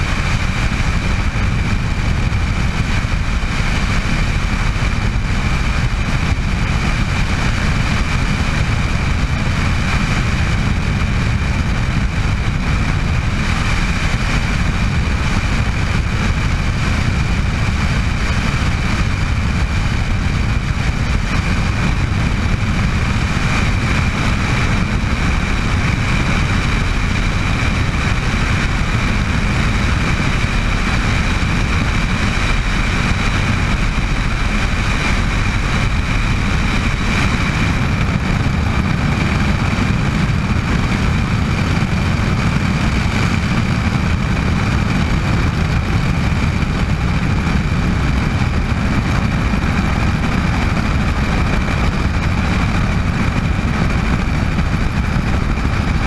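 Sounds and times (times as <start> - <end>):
helicopter rotors rumbling: 0.0 - 56.0
high turbine whine: 0.0 - 56.0.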